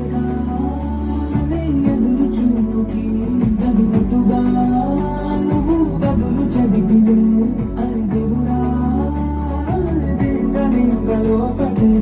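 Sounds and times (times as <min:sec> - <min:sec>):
heavy sustained bass notes: 0:00.0 - 0:12.0
song through a soundbar: 0:00.0 - 0:12.0.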